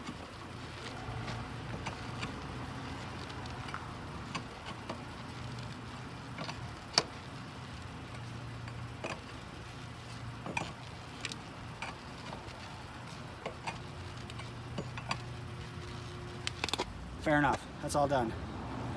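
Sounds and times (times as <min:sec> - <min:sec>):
lug wrench clicking on lug nuts: 0:00.0 - 0:09.6, 0:10.3 - 0:17.0.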